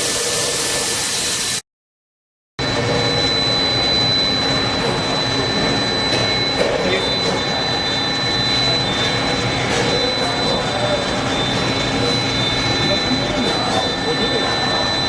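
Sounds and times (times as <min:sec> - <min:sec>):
drilling machine high-pitched whine: 0:00.0 - 0:01.6, 0:02.6 - 0:15.0.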